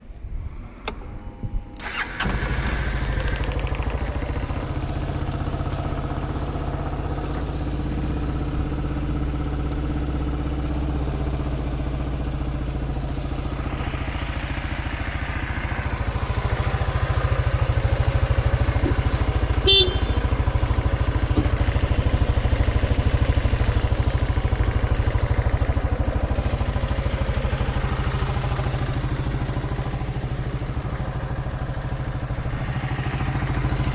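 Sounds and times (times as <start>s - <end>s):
scooter engine idling: 1.8s - 33.9s.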